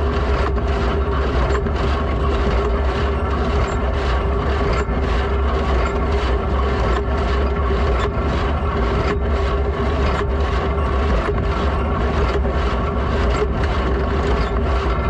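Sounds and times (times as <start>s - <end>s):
baler pulsing: 0.0s - 15.0s
tractor engine running: 0.0s - 15.0s.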